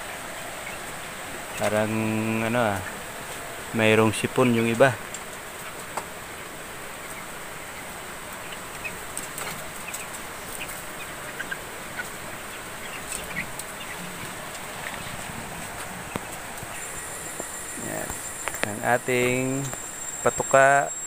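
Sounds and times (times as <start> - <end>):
chicks peeping and chirping: 0.0 - 20.9
steady background hiss: 0.0 - 21.0.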